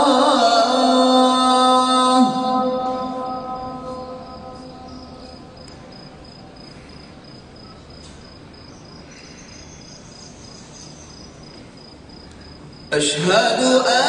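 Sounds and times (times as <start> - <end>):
background hiss: 2.7 - 14.0.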